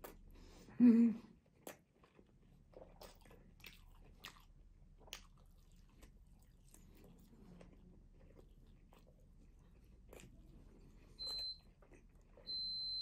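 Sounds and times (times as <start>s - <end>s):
wet chewing and smacking: 0.0s - 0.7s, 1.3s - 13.0s.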